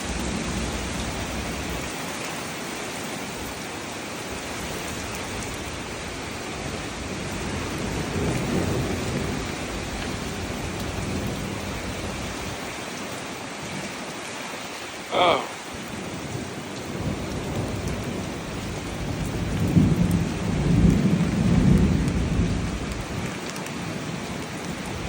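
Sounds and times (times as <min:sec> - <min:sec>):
heavy rain and wind: 0:00.0 - 0:25.0.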